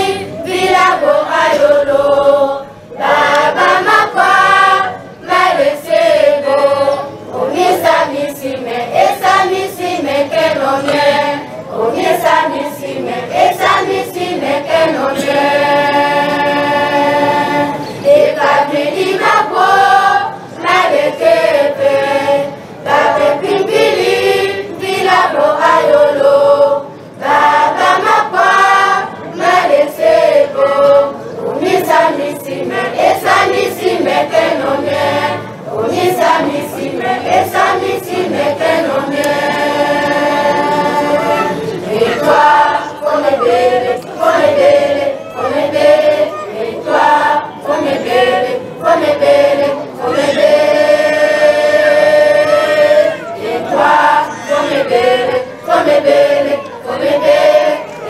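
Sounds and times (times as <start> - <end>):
women and children singing: 0.0 - 58.0.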